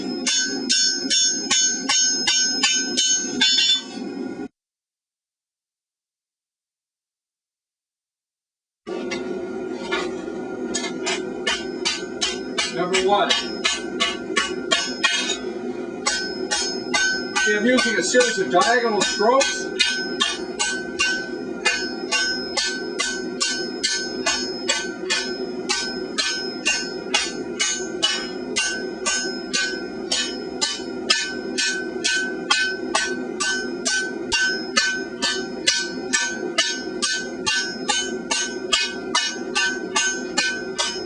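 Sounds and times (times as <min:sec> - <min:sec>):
hammer striking steel on anvil: 0:00.0 - 0:04.2, 0:09.0 - 0:41.0.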